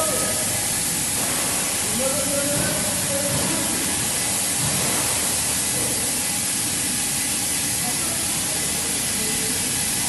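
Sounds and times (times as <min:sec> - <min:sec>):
lathe machining metal hiss: 0:00.0 - 0:10.0.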